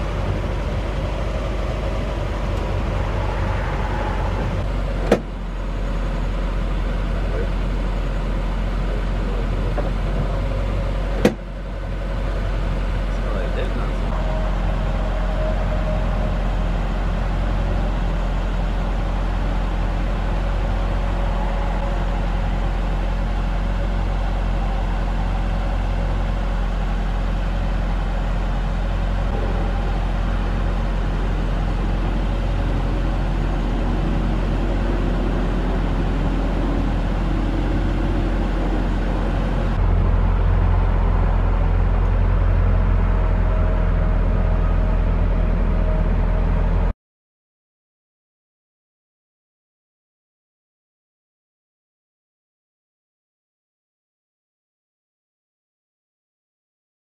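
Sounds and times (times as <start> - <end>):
low rumble: 0.0 - 46.9.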